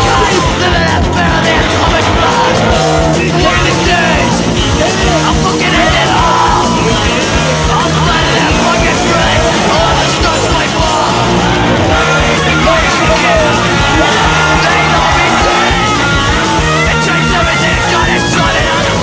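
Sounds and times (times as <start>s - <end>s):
loud rock music with singing: 0.0s - 19.0s.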